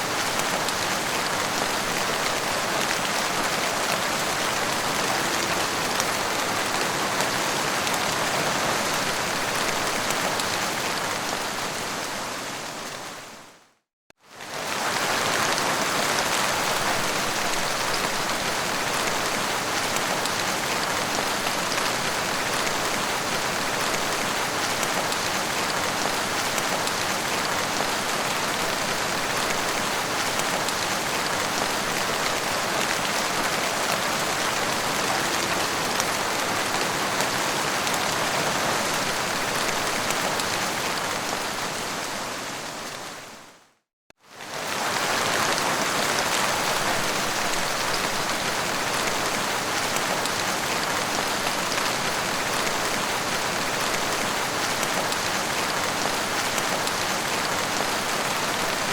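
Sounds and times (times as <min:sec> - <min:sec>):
heavy rain falling: 0:00.0 - 0:13.3, 0:14.3 - 0:43.3, 0:44.4 - 0:58.9.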